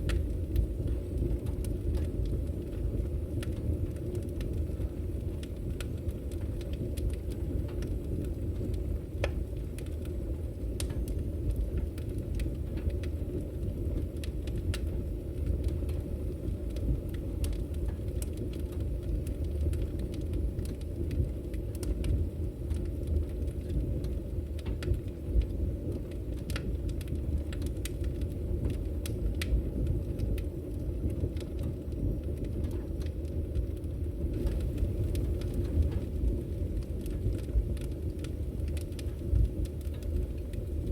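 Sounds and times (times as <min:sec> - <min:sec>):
fire crackles and pops: 0:00.0 - 0:40.9
fire roaring in fireplace: 0:00.0 - 0:40.9.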